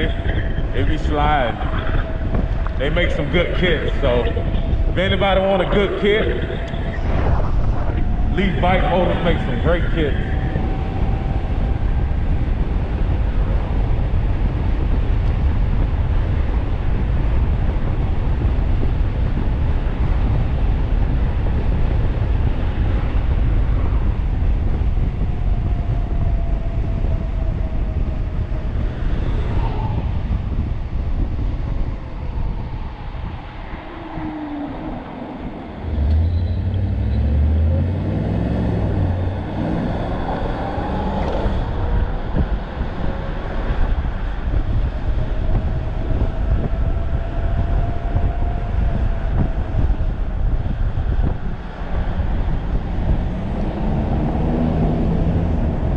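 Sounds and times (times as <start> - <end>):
low rumble: 0.0 - 55.9
road noise: 0.0 - 55.9
wind buffeting microphone: 0.0 - 55.9.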